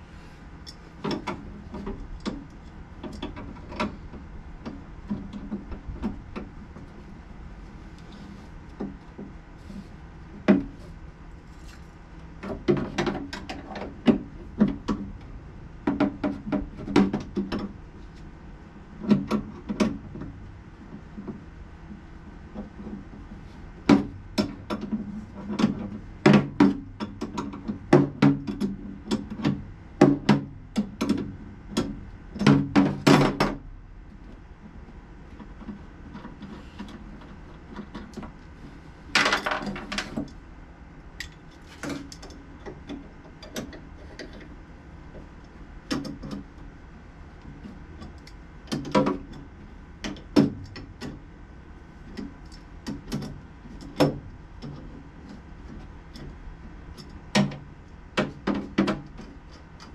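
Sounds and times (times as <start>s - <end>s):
rustle: 0.0s - 59.9s.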